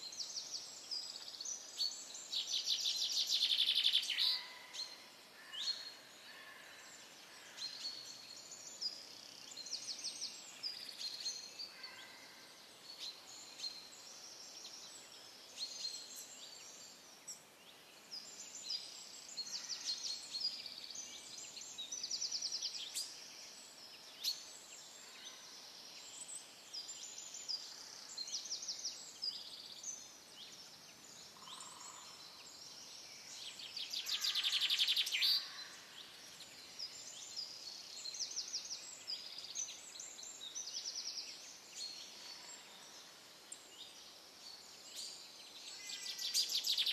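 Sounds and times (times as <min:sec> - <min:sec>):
songbirds singing and trilling: 0:00.0 - 0:46.9.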